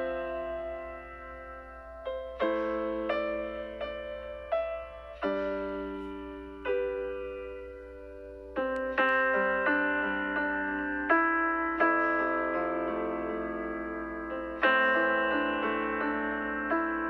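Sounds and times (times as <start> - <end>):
gentle solo piano: 0.0 - 17.0.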